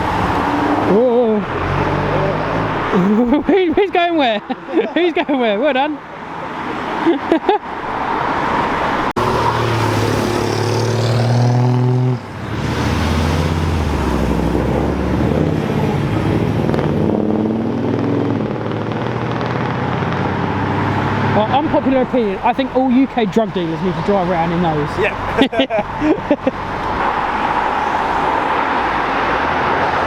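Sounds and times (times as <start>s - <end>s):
car engine accelerating hard: 0.0s - 3.4s, 8.9s - 30.0s.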